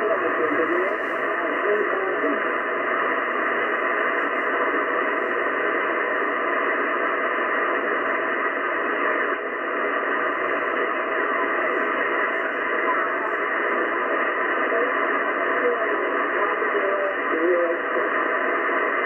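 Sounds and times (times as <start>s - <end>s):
shortwave radio static hiss: 0.0s - 19.0s.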